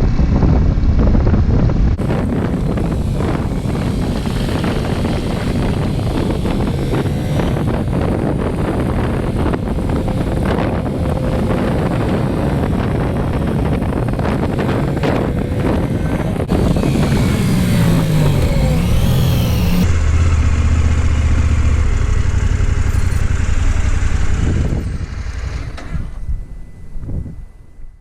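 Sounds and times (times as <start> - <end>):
wind rushing over microphone: 0.0 - 22.8, 23.5 - 27.8
motorcycle engine running: 0.0 - 25.5.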